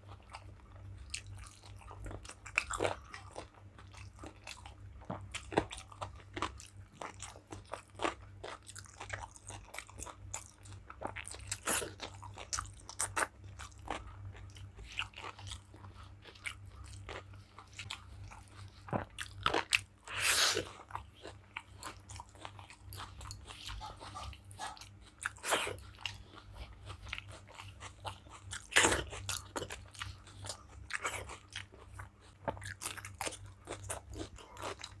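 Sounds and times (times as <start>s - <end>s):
person chewing and crunching food: 0.0s - 35.0s.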